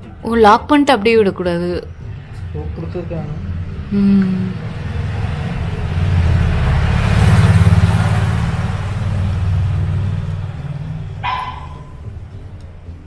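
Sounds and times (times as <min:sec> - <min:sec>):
vehicle engine passing by: 0:01.1 - 0:13.0.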